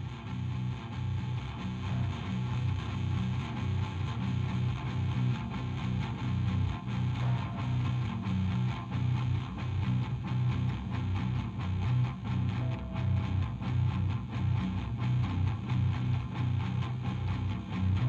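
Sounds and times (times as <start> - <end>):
electric guitar music: 0.0 - 18.0.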